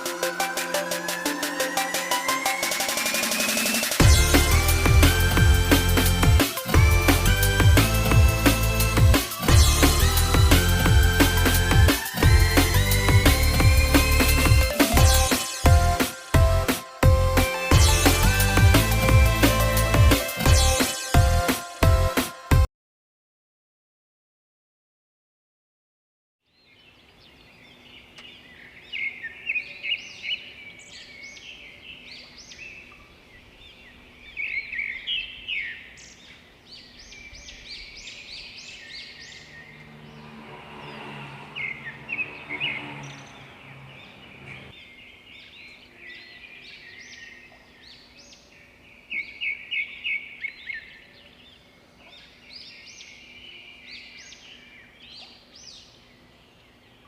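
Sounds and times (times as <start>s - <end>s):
birds chirping: 0.0s - 22.2s, 26.5s - 57.0s.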